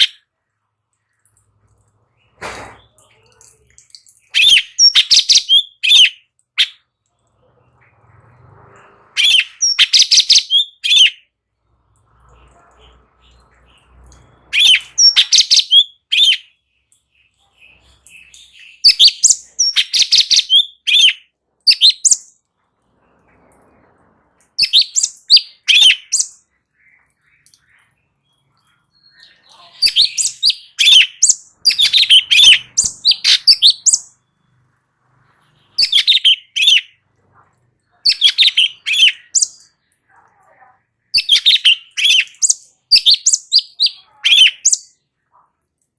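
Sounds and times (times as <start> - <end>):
bird chirping: 0.0 - 0.3, 1.2 - 45.5.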